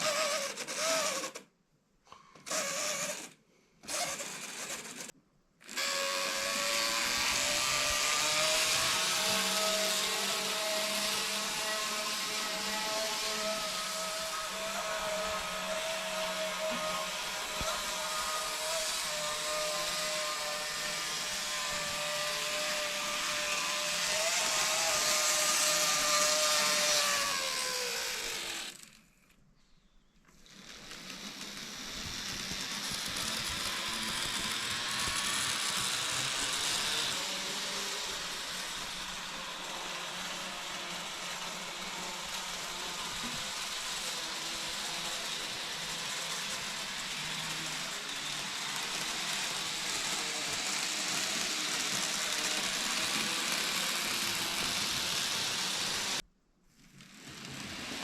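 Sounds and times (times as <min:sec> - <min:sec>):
model train motor whine: 0:00.0 - 0:01.5, 0:02.4 - 0:29.1, 0:30.3 - 0:56.2, 0:56.9 - 0:58.0.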